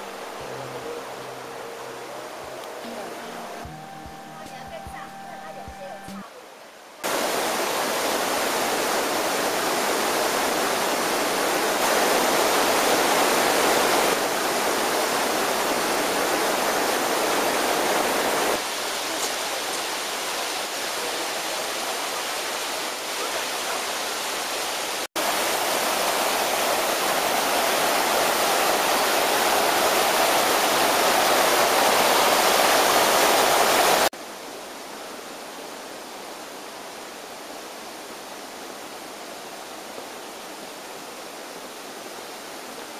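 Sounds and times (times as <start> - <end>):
waterfall roaring: 0.0 - 42.9.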